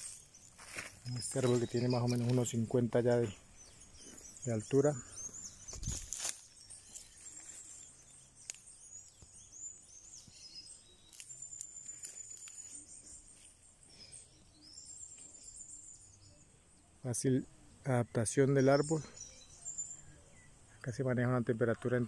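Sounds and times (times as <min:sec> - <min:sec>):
birds and insects chirping: 0:00.0 - 0:22.0.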